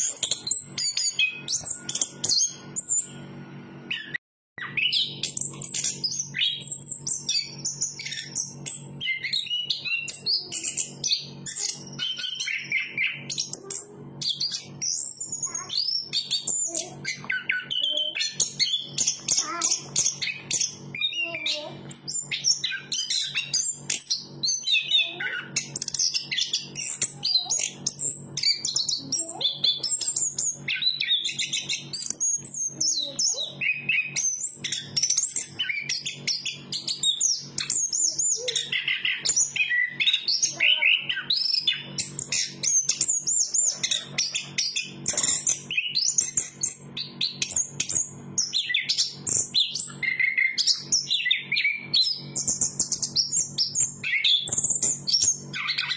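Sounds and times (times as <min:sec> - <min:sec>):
bird singing rapid whistles: 0:00.0 - 0:03.2, 0:03.9 - 0:55.9.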